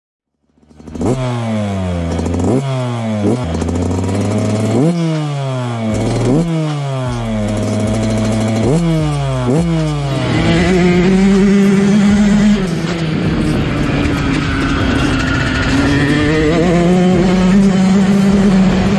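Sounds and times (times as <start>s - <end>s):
dirt bike engine revving: 0.4s - 18.9s.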